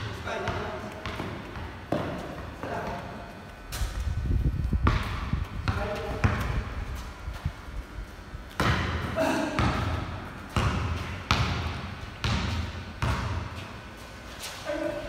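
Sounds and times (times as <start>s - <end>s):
basketball bouncing on concrete: 0.0s - 7.5s, 8.5s - 13.8s.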